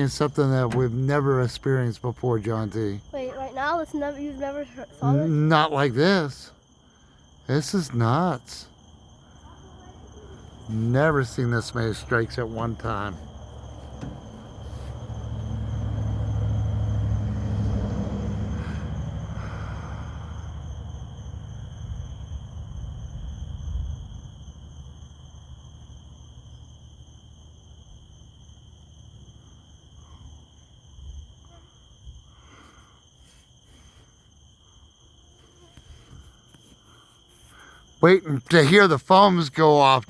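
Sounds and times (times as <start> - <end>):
night insects trilling: 0.0 - 40.0.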